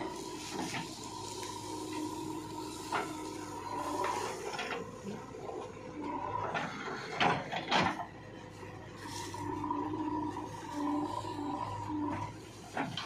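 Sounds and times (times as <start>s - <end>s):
diesel engine and hydraulic whine: 0.0s - 13.0s.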